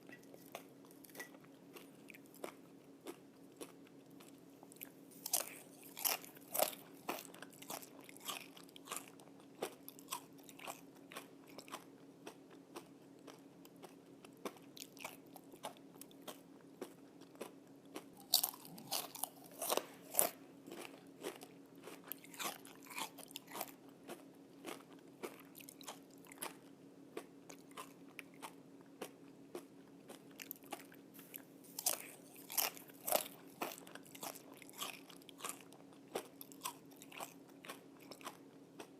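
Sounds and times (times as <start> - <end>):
crispy bacon crunching: 0.0 - 38.9.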